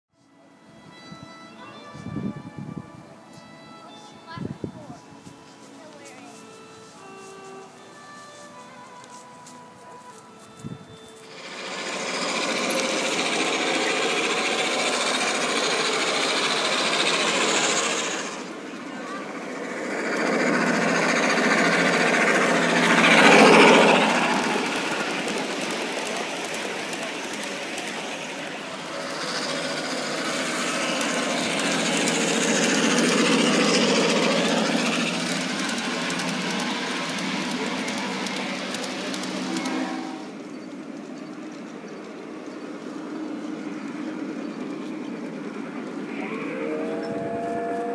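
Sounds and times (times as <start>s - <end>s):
miniature train wheels clattering: 5.8s - 46.1s.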